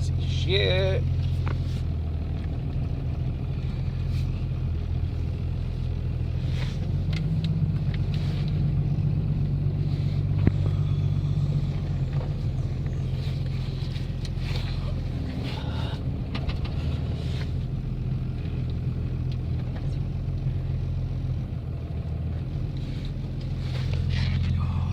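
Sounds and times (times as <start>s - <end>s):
pickup engine running: 0.0s - 24.9s.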